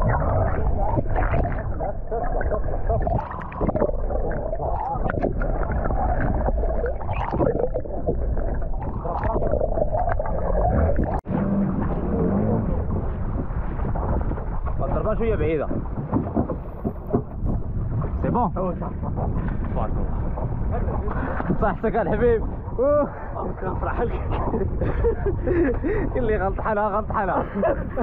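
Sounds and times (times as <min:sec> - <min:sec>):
underwater rumble and gurgling: 0:00.0 - 0:28.0.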